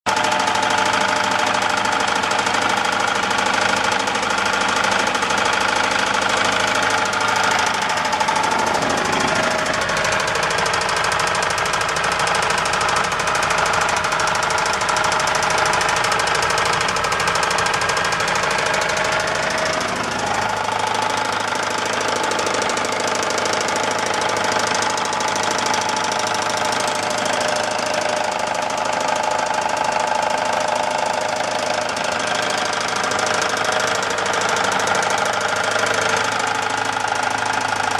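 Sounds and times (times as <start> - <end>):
boat engine knocking: 0.1 - 37.9.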